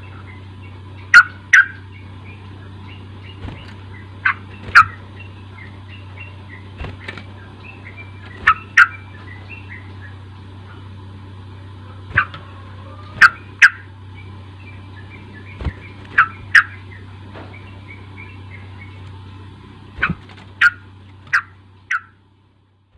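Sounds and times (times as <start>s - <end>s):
loud sharp bird calls: 0.0s - 11.0s, 11.6s - 22.2s
soft twittering bird chirps: 0.0s - 22.2s
steady low hum: 0.0s - 22.9s.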